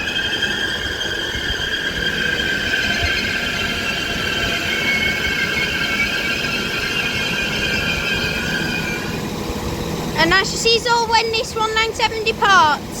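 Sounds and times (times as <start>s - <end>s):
train brakes squealing: 0.0s - 12.8s
train low rumble: 0.0s - 13.0s.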